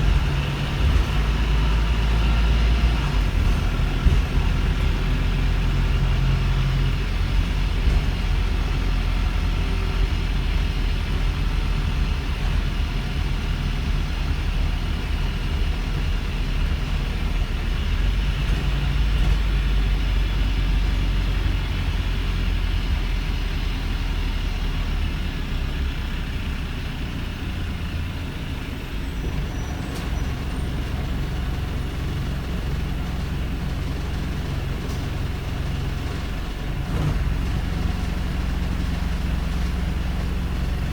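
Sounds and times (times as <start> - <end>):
bus diesel engine idling: 0.0 - 40.9.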